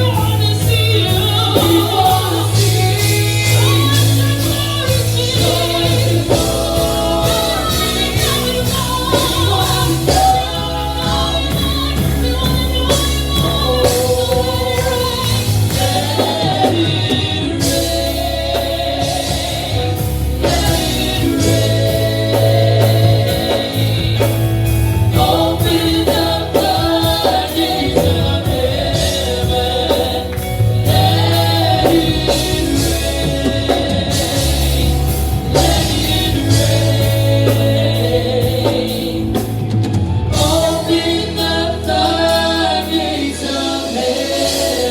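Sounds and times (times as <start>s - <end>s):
drum beats: 0.0s - 43.0s
heavy sustained bass: 0.0s - 43.3s
voices singing: 0.0s - 44.9s.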